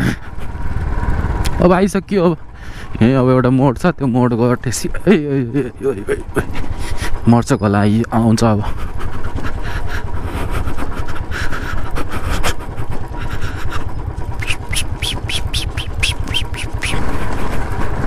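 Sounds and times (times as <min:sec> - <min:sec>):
motorcycle engine at low speed: 0:00.0 - 0:18.0.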